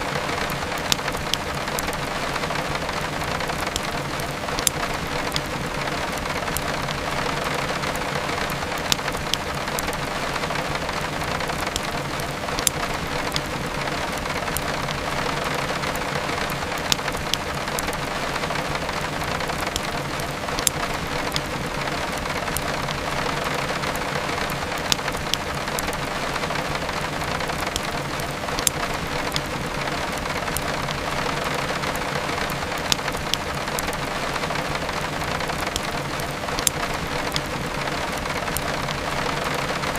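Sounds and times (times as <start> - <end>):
crackling wood fire: 0.0 - 39.9
heavy rain: 0.0 - 39.9.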